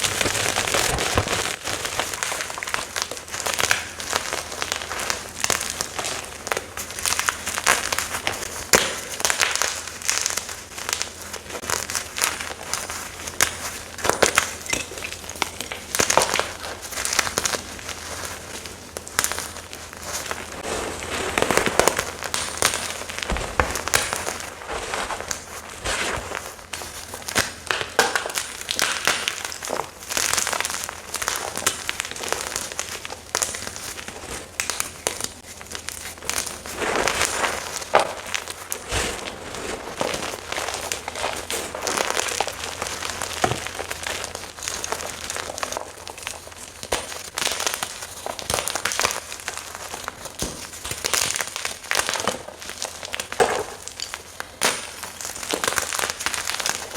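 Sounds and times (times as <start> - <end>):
chalk chunks crunching: 0.0 - 56.9.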